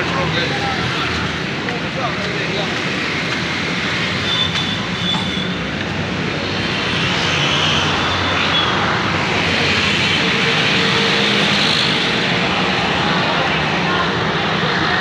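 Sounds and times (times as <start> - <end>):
auto-rickshaw engines: 0.0 - 15.0
motorcycle engines: 0.0 - 15.0.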